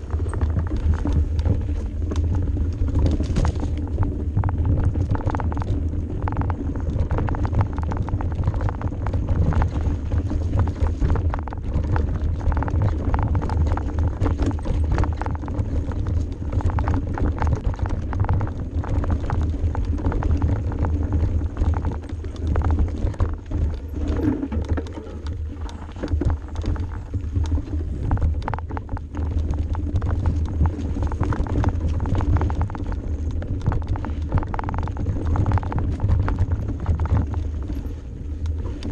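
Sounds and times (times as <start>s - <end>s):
bike rattling and knocking: 0.0s - 38.9s
tyres rolling over dirt: 0.0s - 38.9s.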